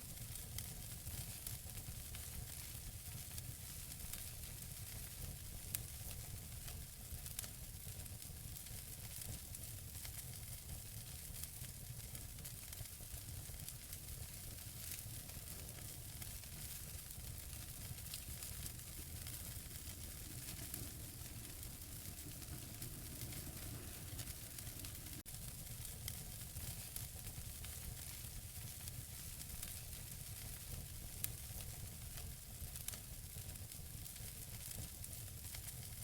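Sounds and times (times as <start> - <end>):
wood fire crackling: 0.1 - 36.0
fire popping: 0.2 - 36.0.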